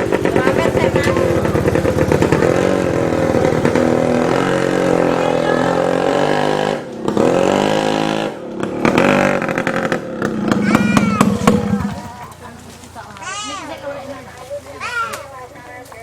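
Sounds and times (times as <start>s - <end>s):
motor engine running: 0.0s - 14.8s.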